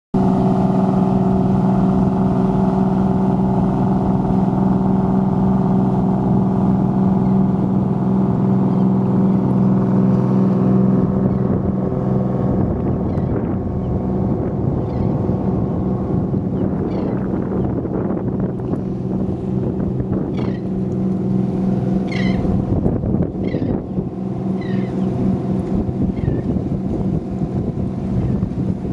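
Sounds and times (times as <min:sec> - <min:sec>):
boat engines droning: 0:00.2 - 0:28.9.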